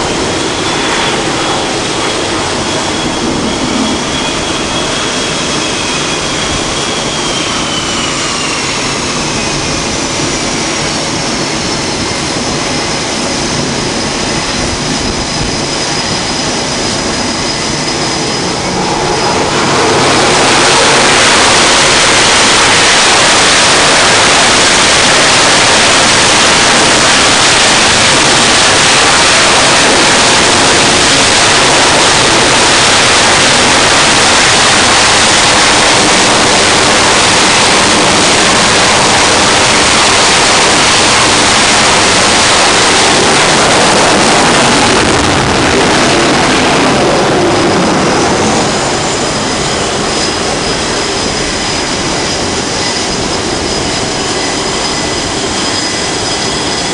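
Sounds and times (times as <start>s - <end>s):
high turbine whine: 0.0s - 56.9s
jet engine roar: 0.0s - 56.9s.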